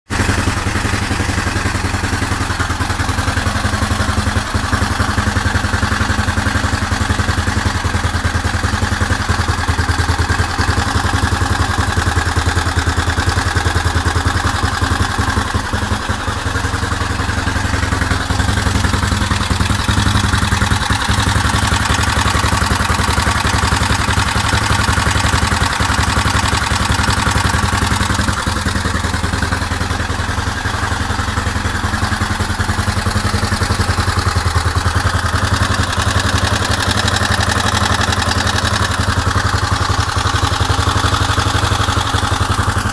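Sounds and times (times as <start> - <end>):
motorcycle engine idling: 0.1 - 42.9.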